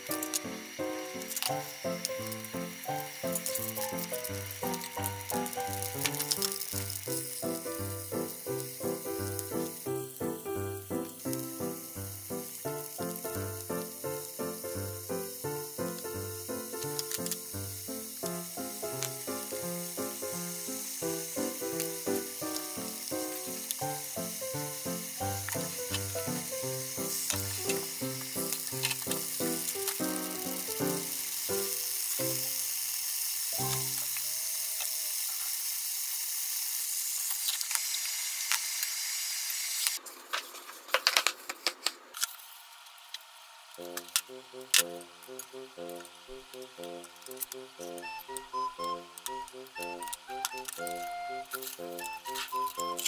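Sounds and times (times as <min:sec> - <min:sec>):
meat sizzling in frying pan: 0:00.0 - 0:40.0, 0:42.7 - 0:53.0.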